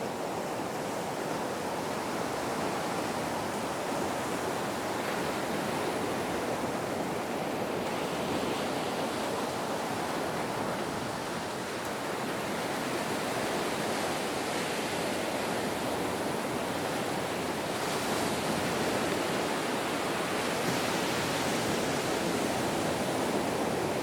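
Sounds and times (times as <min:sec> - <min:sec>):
ocean surf: 0:00.0 - 0:24.0.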